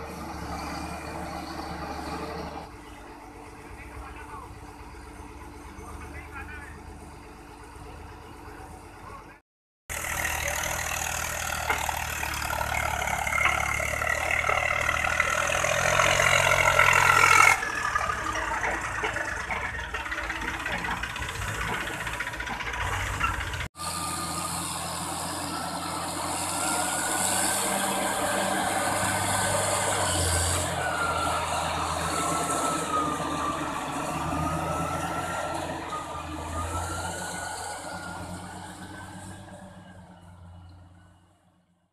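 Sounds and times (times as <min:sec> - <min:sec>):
diesel engine revving with whine: 0:00.0 - 0:02.9, 0:09.9 - 0:41.2.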